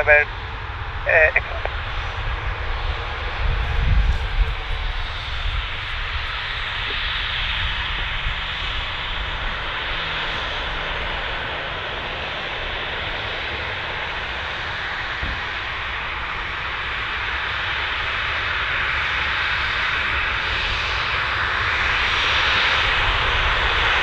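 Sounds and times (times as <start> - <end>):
jet engines roaring at takeoff: 0.0 - 24.0.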